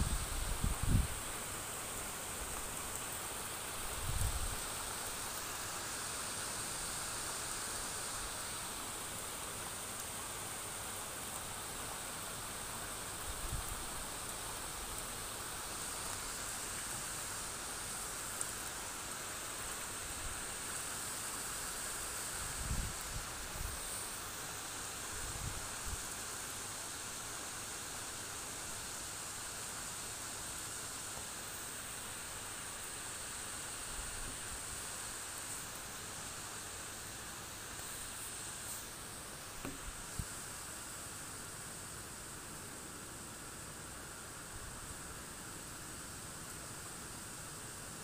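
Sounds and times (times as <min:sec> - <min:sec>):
rain on roofs and foliage: 0:00.0 - 0:48.0.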